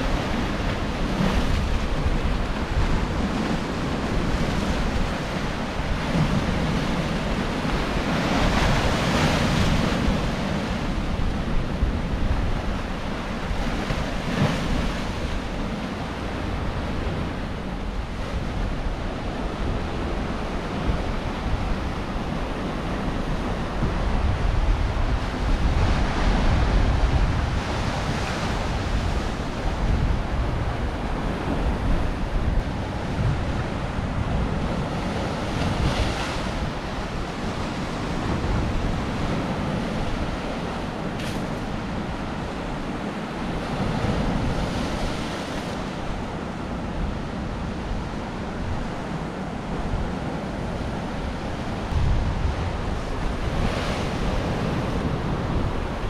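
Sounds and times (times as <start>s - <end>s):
waves breaking on rocky shore: 0.0s - 56.0s.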